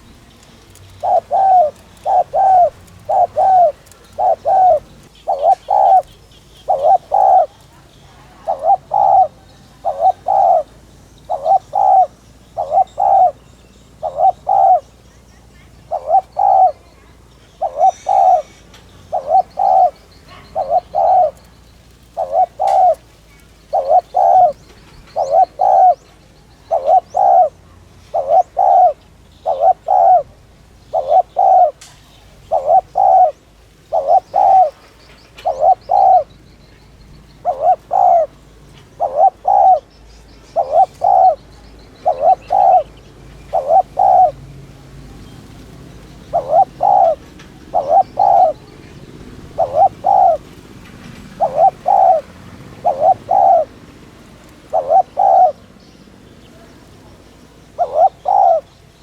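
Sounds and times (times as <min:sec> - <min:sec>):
dove cooing: 0:00.0 - 0:36.4, 0:37.0 - 0:44.4, 0:45.2 - 0:55.8, 0:56.4 - 0:59.0
small birds chirping: 0:00.0 - 0:59.0.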